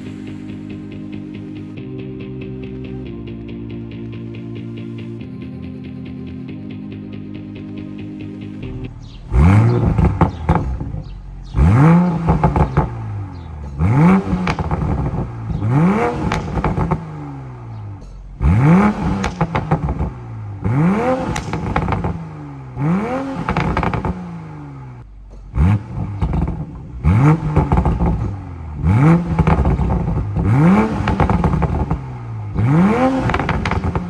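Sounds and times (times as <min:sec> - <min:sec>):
car engine revving: 0:00.0 - 0:01.8, 0:08.5 - 0:34.0.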